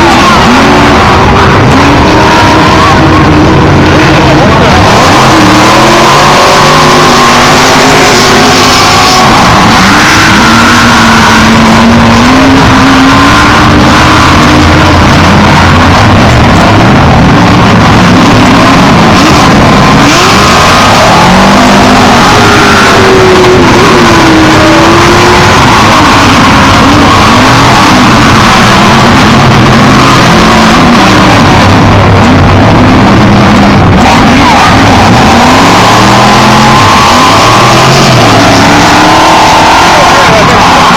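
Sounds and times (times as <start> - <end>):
race vehicle engines at full throttle: 0.0 - 40.9.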